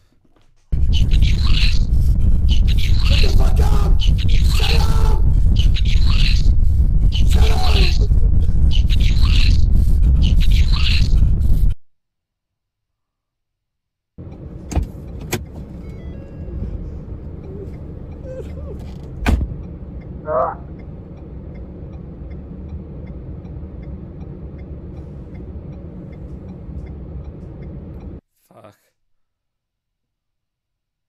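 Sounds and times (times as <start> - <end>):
car driving rumble: 0.0 - 11.8, 14.2 - 28.2.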